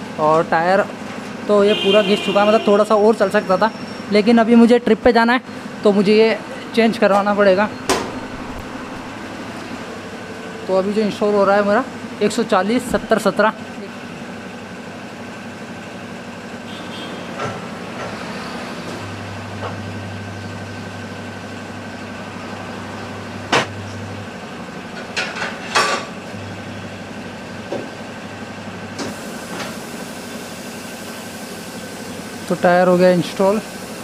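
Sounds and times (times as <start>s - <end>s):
tyre changer motor humming: 5.4s - 34.0s.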